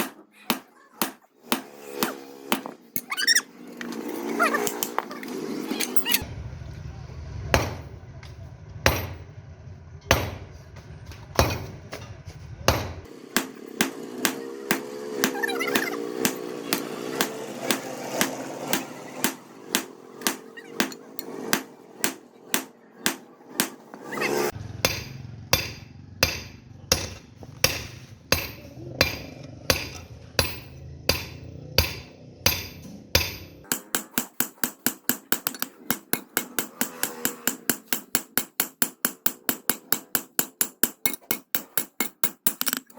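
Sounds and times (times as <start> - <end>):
hammer striking steel on anvil: 0.0 - 3.1, 7.5 - 7.9, 8.9 - 9.3, 10.1 - 10.5, 11.1 - 42.9.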